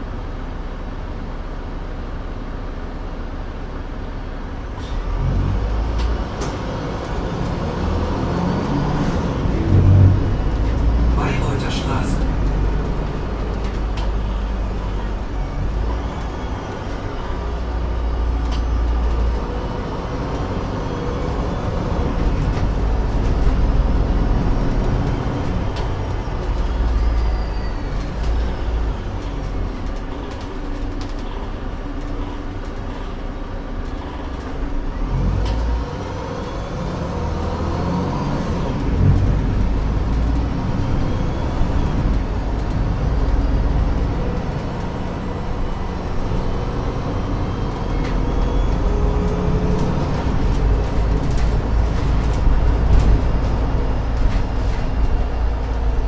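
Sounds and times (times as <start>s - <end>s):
bus diesel engine rumble: 0.0s - 56.0s.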